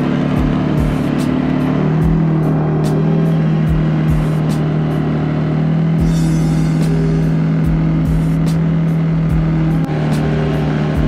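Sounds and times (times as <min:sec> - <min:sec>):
engine running at high revs: 0:00.0 - 0:11.0.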